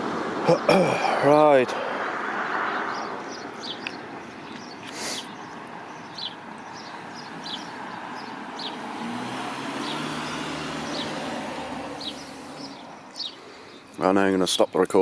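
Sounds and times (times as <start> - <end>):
vehicle engine passing: 0.0 - 13.8
outdoor background noise: 0.0 - 15.0
small birds chirping: 2.4 - 15.0.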